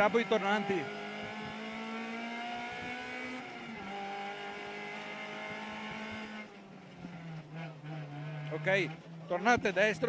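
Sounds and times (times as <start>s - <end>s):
rally car engine from inside cabin: 0.0s - 9.9s.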